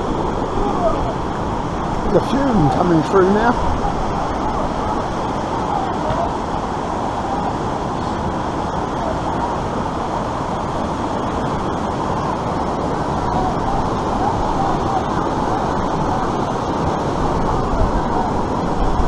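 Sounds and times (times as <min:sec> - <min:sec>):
white water rushing: 0:00.0 - 0:19.0.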